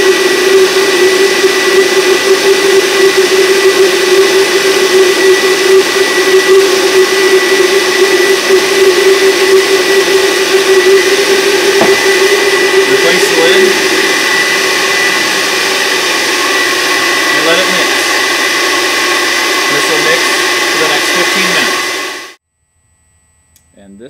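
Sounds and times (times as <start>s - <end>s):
blender motor running: 0.0s - 23.8s.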